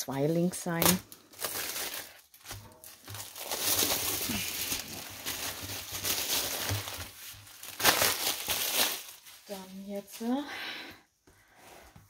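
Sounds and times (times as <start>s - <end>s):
plastic wrap crinkling: 0.0s - 10.5s.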